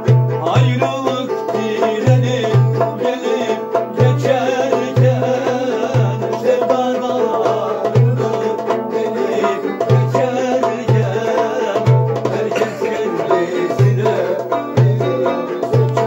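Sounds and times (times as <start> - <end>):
plucked lute folk tune: 0.0 - 16.0.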